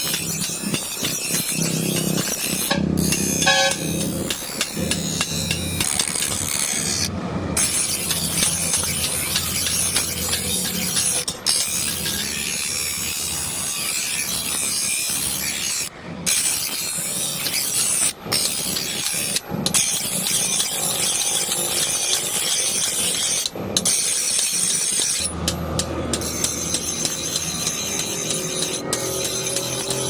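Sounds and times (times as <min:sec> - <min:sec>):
tool rasping: 0:00.0 - 0:30.0.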